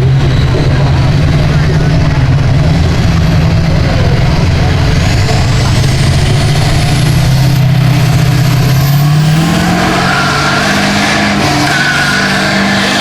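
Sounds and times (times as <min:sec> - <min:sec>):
truck engine running hard: 0:00.0 - 0:13.0.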